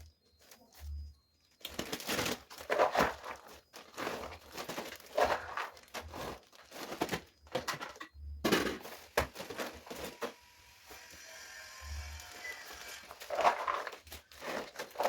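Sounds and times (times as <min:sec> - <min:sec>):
plastic bags rustling: 0:00.3 - 0:11.1, 0:12.0 - 0:15.0.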